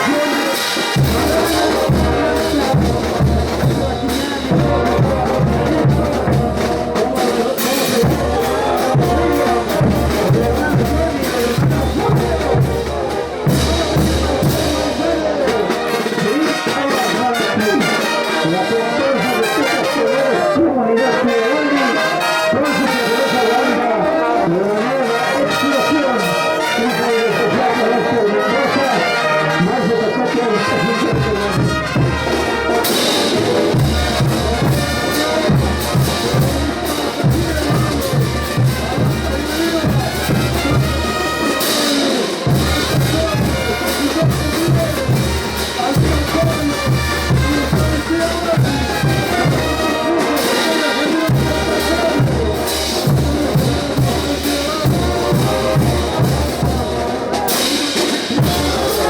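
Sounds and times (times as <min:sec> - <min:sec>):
heavy percussion beat: 0:00.0 - 0:19.9, 0:29.2 - 0:59.0
brass band playing: 0:00.0 - 0:59.0.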